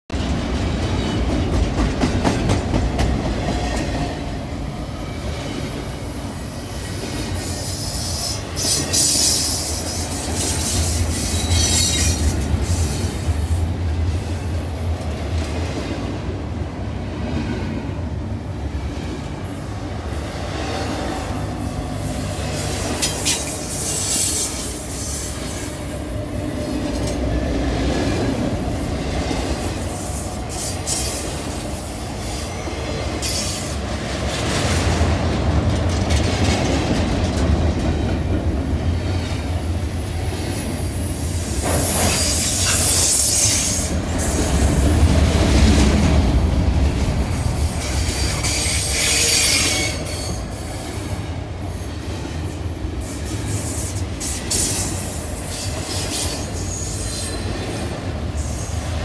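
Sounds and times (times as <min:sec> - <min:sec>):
freight train wheels rumbling: 0:00.1 - 0:59.0.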